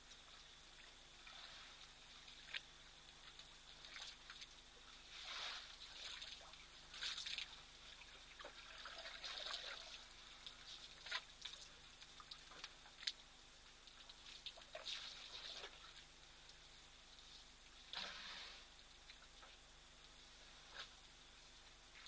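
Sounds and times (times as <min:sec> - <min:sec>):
water trickling and splashing: 0:00.0 - 0:22.0.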